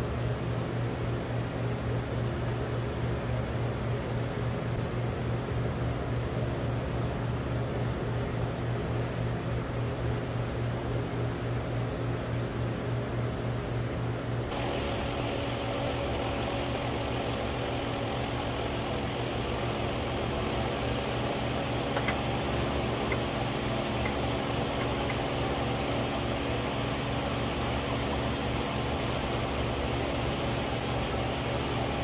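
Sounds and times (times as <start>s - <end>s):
machine hum with hiss: 0.0s - 32.0s.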